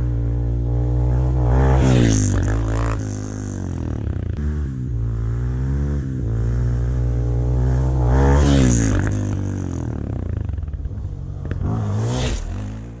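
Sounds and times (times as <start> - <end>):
dirt bike revving past: 0.0 - 13.0.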